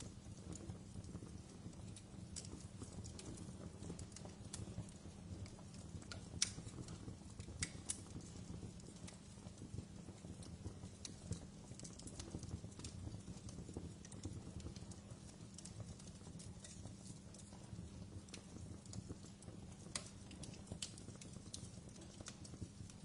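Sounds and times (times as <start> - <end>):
sharp pops of fire: 0.0 - 23.0
wood fire crackling: 0.0 - 23.0.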